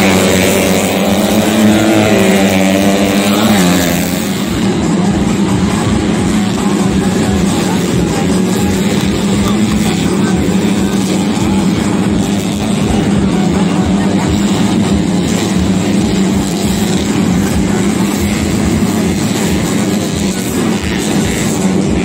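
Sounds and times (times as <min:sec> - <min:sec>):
motorcycle engines racing: 0:00.0 - 0:22.0.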